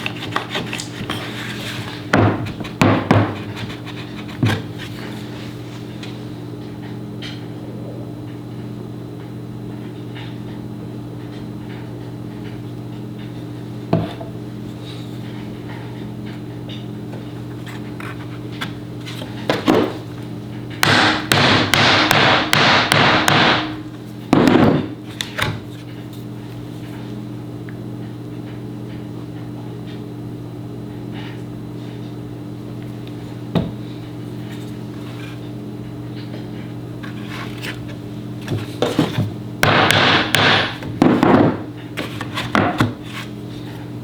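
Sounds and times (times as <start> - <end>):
electrical hum: 0.0 - 44.0.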